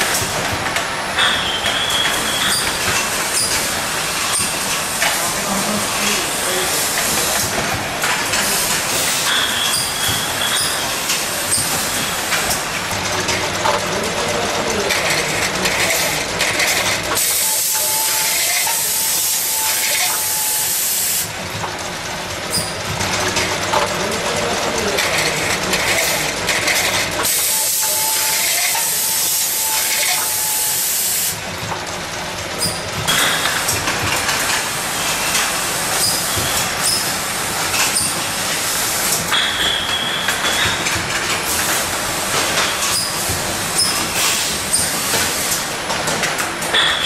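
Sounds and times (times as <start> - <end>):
filling machine clattering: 0.0 - 47.0.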